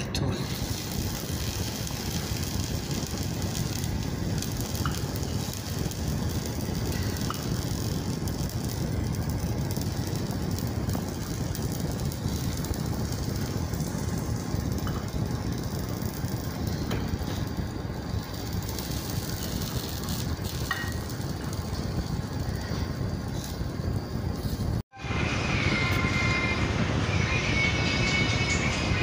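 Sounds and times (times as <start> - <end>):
stovetop hiss: 0.0 - 29.0
low rushing noise: 0.4 - 29.0.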